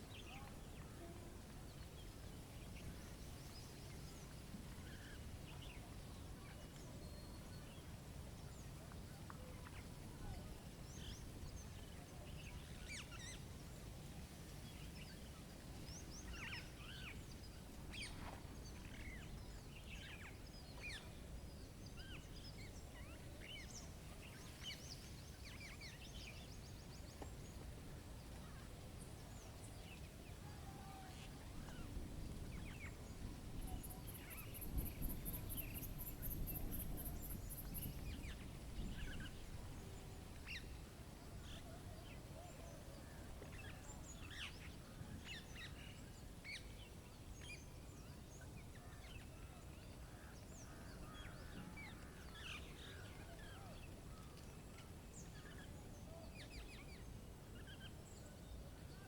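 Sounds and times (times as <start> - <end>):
low rumble of wind: 0.0 - 59.0
songbirds chirping: 0.0 - 59.0.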